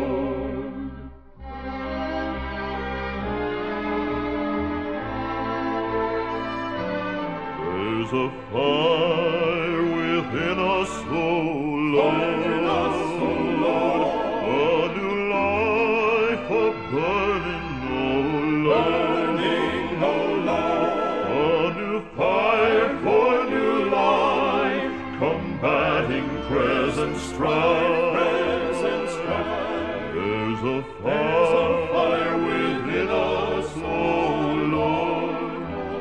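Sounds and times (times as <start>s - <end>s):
male vocal quartet singing: 0.0s - 1.0s, 7.6s - 36.0s.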